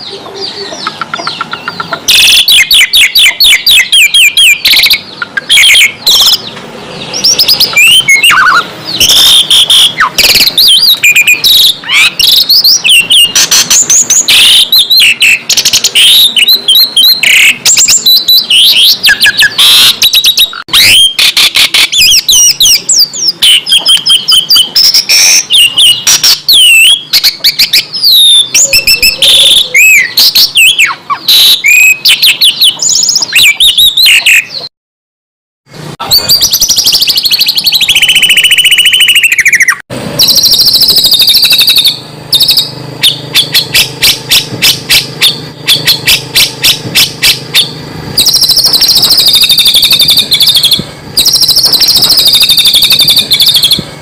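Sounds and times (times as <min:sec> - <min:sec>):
songbird singing: 0:00.0 - 0:34.7, 0:36.0 - 0:53.8.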